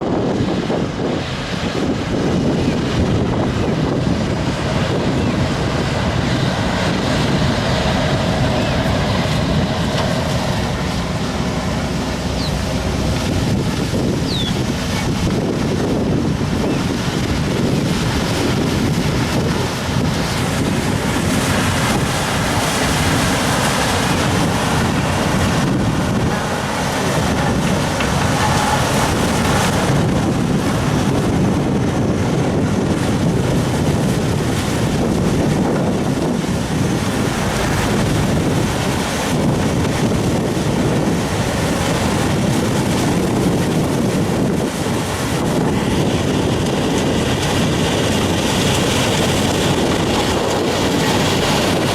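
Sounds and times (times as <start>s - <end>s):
harvester rushing noise: 0.0s - 51.9s.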